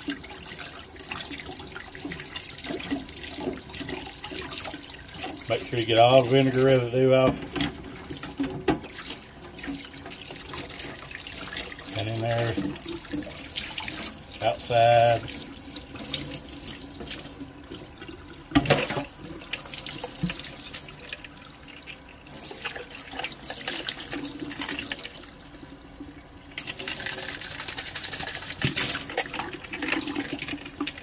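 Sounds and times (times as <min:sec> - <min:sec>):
faucet running into steel sink: 0:00.0 - 0:31.0.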